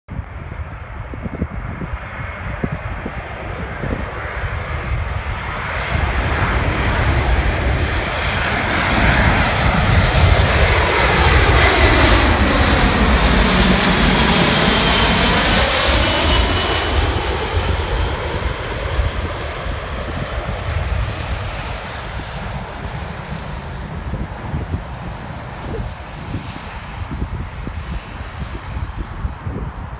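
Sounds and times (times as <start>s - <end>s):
jet aircraft passing overhead: 0.2s - 29.9s.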